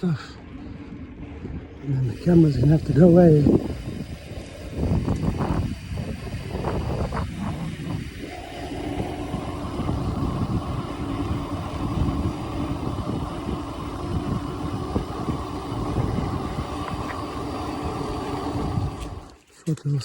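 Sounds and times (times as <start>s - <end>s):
bike tyres humming on tarmac: 0.0s - 19.4s
wind buffeting microphone: 0.0s - 19.4s.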